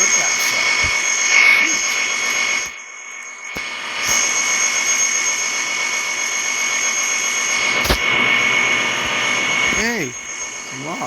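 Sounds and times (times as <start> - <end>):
even hiss: 0.0 - 6.1, 7.5 - 11.0
high-pitched whine: 0.0 - 11.0.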